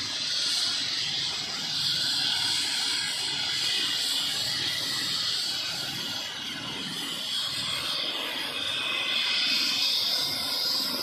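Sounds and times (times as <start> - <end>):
helicopter rotor turning: 0.0 - 11.0
helicopter turbine whine: 0.0 - 11.0.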